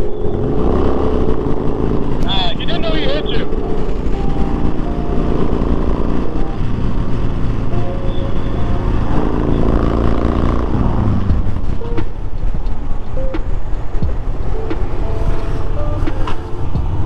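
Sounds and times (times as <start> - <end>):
motorcycle engine: 0.0 - 17.0
wind and road noise: 0.0 - 17.0.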